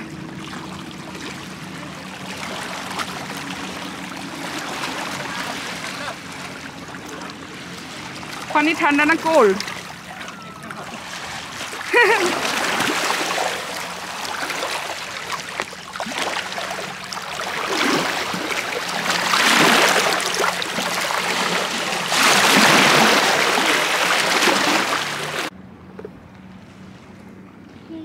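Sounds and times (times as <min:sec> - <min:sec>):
waves splashing over boulders: 0:00.0 - 0:25.5.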